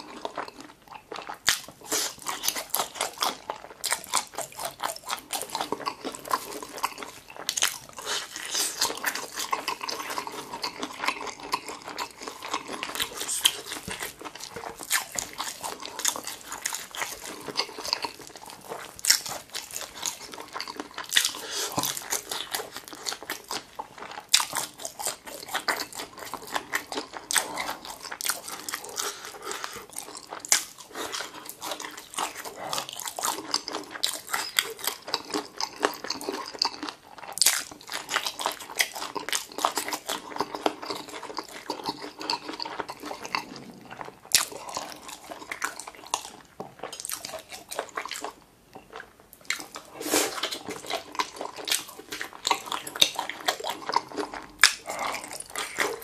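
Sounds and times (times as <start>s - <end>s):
chewing with mouth smacks: 0.0s - 56.0s.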